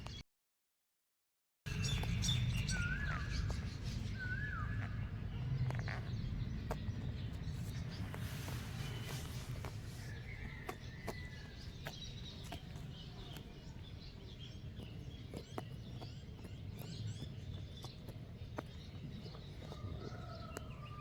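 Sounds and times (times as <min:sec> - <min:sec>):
lamb cropping and chewing grass: 0:01.7 - 0:21.0
small birds chirping: 0:01.7 - 0:21.0.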